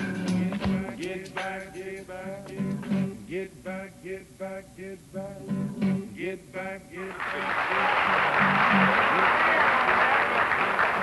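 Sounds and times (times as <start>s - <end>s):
acoustic blues guitar: 0.0s - 11.0s.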